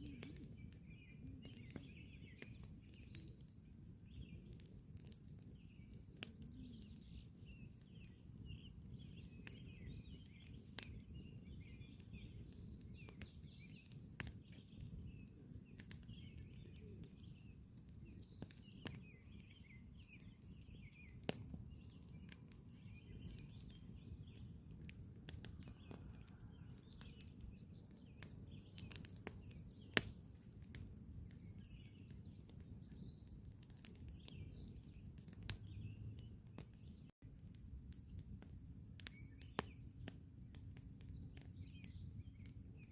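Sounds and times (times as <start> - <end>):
campfire crackling and popping: 0.0 - 42.9
small birds chirping: 0.0 - 42.9.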